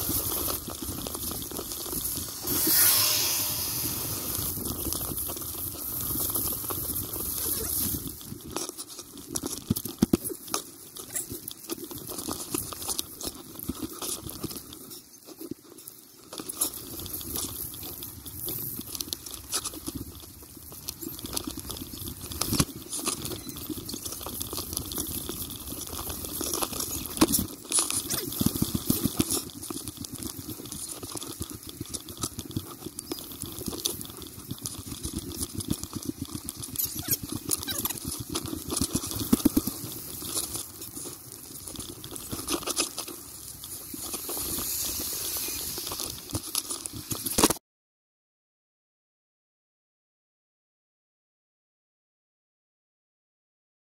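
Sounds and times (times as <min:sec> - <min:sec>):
bicycle tyres crunching snow: 0:00.0 - 0:47.6.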